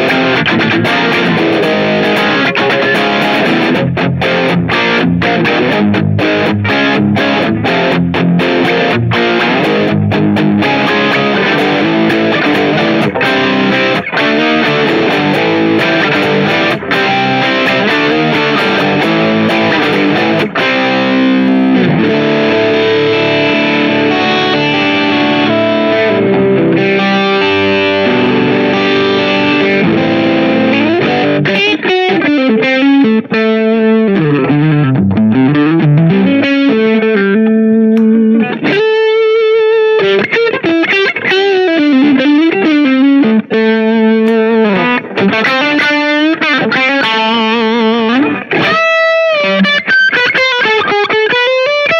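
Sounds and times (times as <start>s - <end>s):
distorted electric guitar chords: 0.0s - 51.9s
electric guitar lead with bends: 0.0s - 51.9s.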